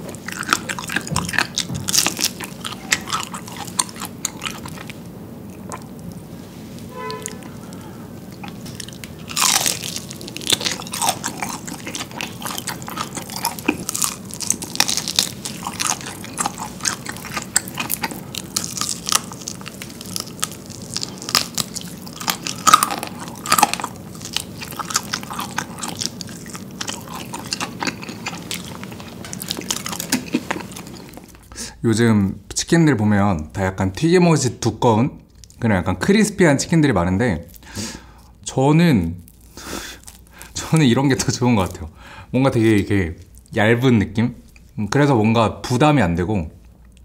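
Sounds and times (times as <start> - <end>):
crunchy chewing of fried chicken: 0.0 - 31.8, 37.0 - 43.7.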